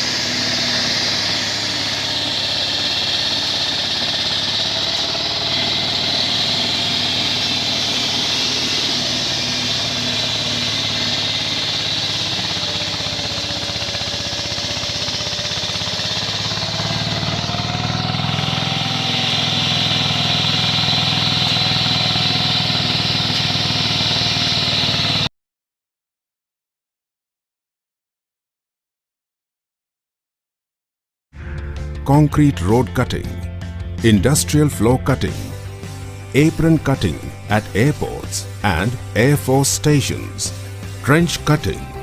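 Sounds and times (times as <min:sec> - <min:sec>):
diesel engine running: 0:00.0 - 0:25.3, 0:31.4 - 0:42.0.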